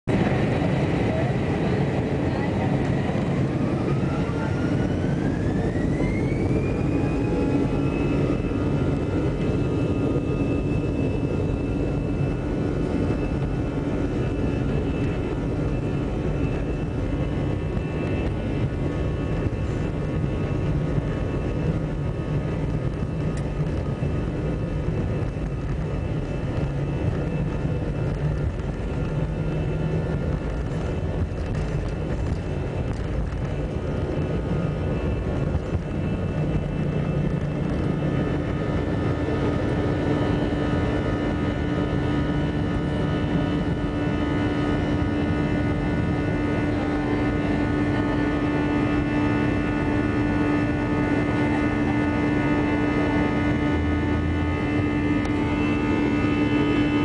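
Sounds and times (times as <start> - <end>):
high fan whine: 0.0 - 57.0
jet engines roaring: 0.0 - 57.0
wheels rumbling on runway: 0.0 - 57.0.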